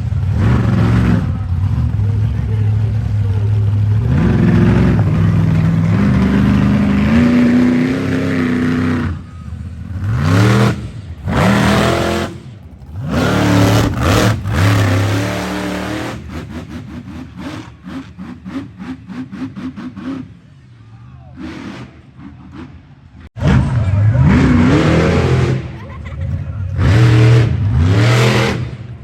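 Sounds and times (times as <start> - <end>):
monster truck engine revving: 0.0 - 29.0.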